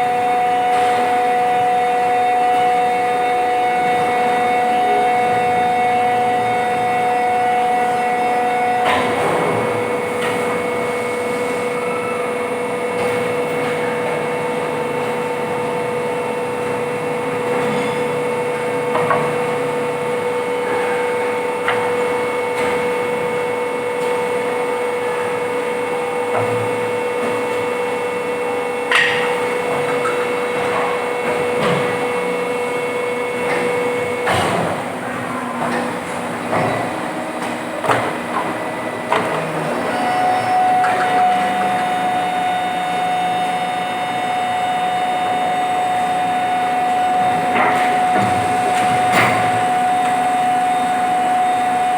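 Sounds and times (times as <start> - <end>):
machine hum: 0.0 - 51.9.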